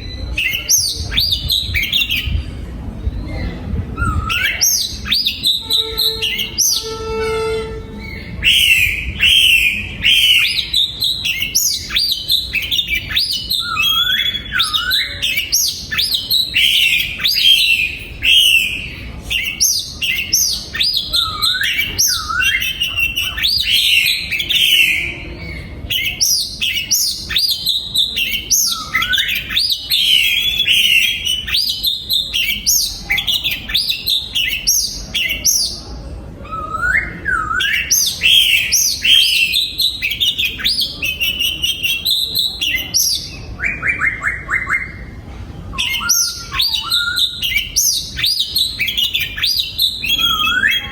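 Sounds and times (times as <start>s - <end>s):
bird singing whistled phrases: 3.1s - 45.1s, 45.7s - 50.9s.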